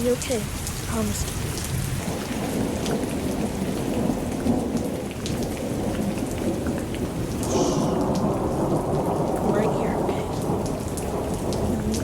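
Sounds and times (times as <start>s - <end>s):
heavy rain: 0.0s - 12.0s
rolling thunder rumble: 0.0s - 12.0s.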